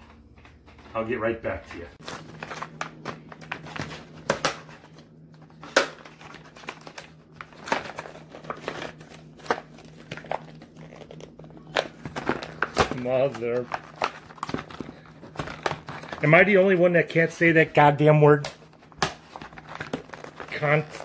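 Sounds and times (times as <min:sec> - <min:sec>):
faint steady hum: 0:00.0 - 0:21.0
plastic packaging crinkling: 0:02.0 - 0:16.9, 0:18.6 - 0:21.0.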